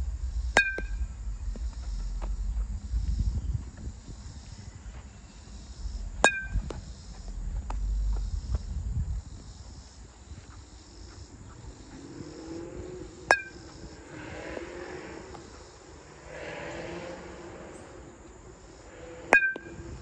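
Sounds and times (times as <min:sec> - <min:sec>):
crickets chirping: 0:00.0 - 0:20.0
wind rumble: 0:00.0 - 0:20.0.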